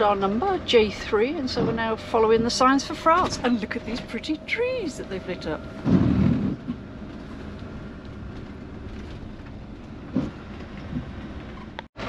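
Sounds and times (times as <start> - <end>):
engine and road rumble in cab: 0.0 - 12.0.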